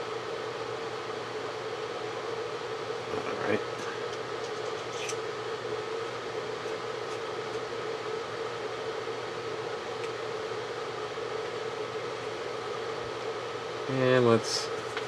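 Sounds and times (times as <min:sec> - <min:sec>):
room noise hum and hiss: 0:00.0 - 0:15.0.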